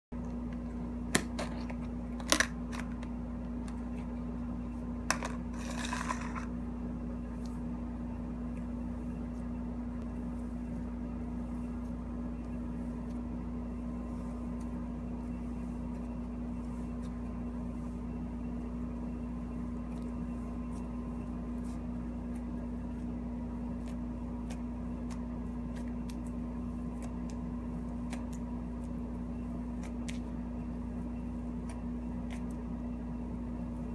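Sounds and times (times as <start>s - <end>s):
steady low hum: 0.1s - 33.9s.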